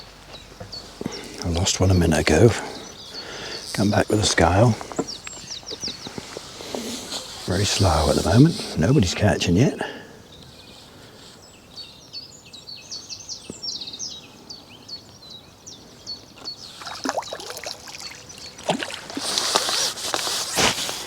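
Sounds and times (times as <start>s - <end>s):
songbird chirping: 0.0s - 20.3s
faint outdoor background noise: 0.0s - 21.0s.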